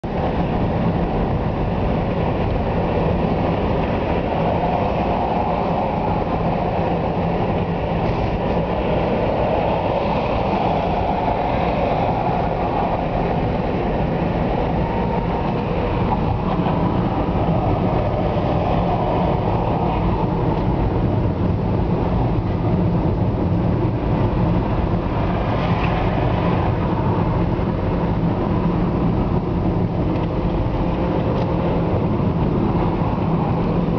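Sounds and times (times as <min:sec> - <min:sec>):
car interior road noise: 0:00.0 - 0:33.9.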